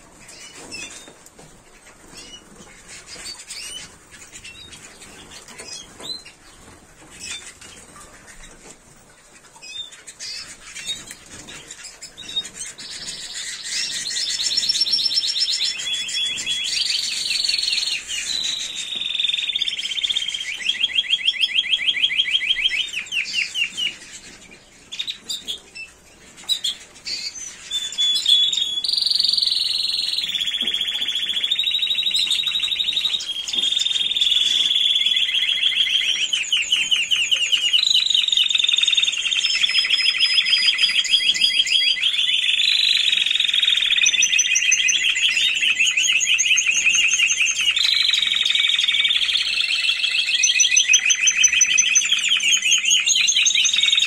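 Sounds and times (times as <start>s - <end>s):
canary chirping and trilling: 0.0s - 54.0s.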